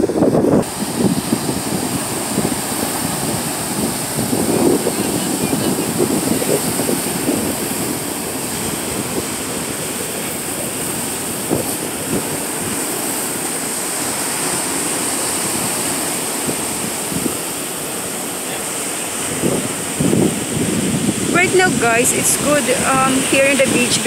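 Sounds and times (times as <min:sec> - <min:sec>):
ocean surf breaking over rocks: 0:00.0 - 0:24.0.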